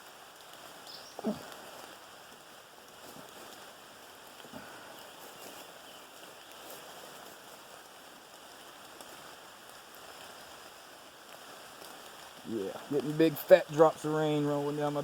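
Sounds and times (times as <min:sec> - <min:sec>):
rain hiss: 0:00.0 - 0:15.0
raindrop ticks: 0:00.0 - 0:15.0.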